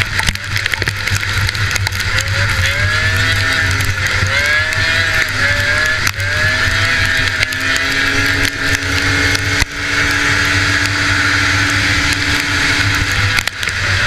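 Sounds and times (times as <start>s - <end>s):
two-stroke snowmobile engine revving: 0.0s - 14.0s.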